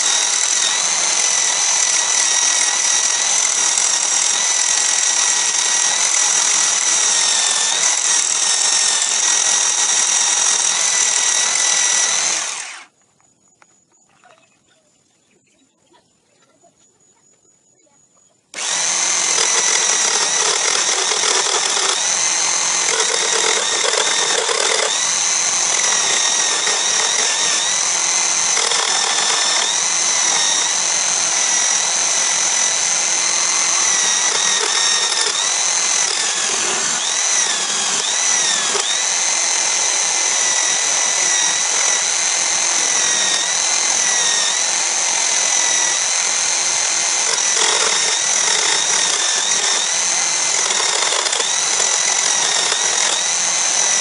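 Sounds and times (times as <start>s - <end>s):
chisel cutting spinning wood: 0.0s - 12.9s, 18.6s - 54.0s
electric drill whining: 0.0s - 12.9s, 18.6s - 54.0s.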